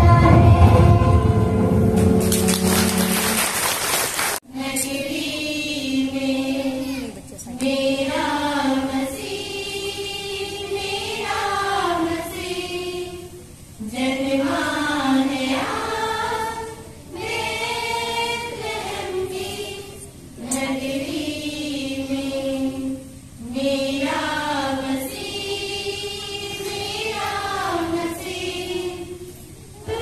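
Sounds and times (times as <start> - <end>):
choir singing: 4.5 - 30.0.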